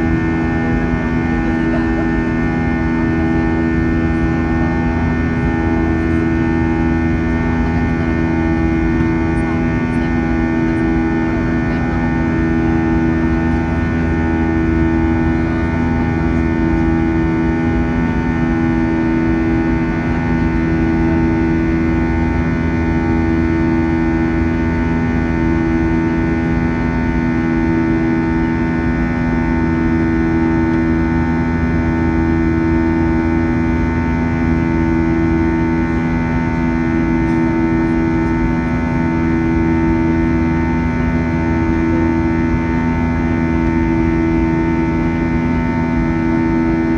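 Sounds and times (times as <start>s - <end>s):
jet engines droning: 0.0s - 46.9s.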